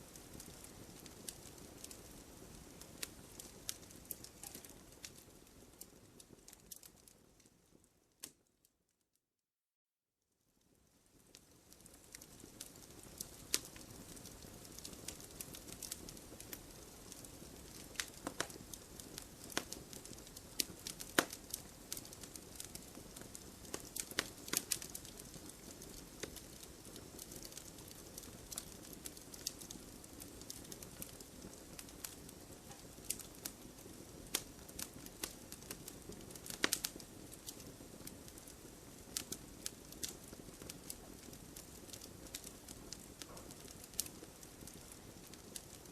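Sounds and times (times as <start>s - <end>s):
campfire crackling and popping: 0.0s - 8.5s, 10.6s - 45.9s
low noise of flames: 0.0s - 8.7s, 10.3s - 45.9s.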